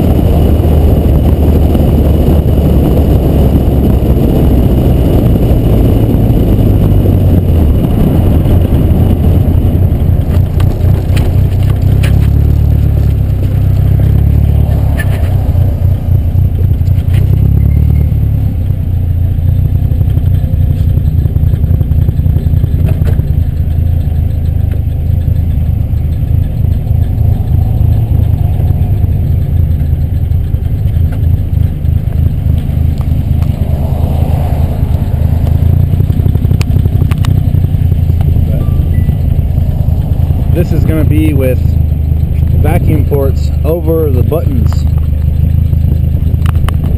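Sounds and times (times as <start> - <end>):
wind buffeting microphone: 0.0 - 17.7, 20.9 - 43.4
car engine: 0.0 - 46.9
road noise: 0.0 - 46.9.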